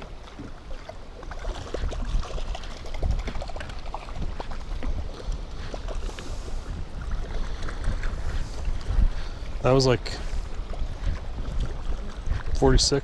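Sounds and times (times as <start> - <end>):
water splashing against boat: 0.0 - 13.0
wind rumble on microphone: 0.0 - 13.0.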